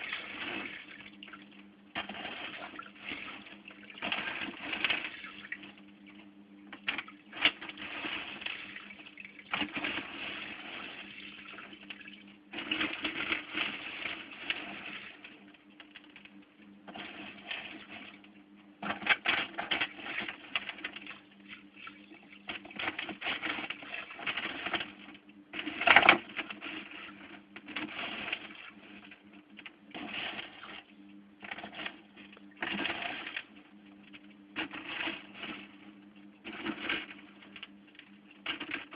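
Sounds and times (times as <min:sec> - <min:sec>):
aquarium water splashing: 0:00.0 - 0:38.9
steady low hum: 0:00.0 - 0:38.9.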